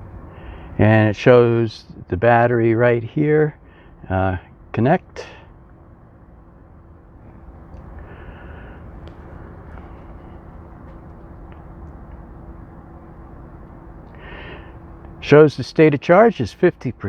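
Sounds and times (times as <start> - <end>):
faint steady hum: 0.0 - 17.0
low background rumble: 0.0 - 17.0.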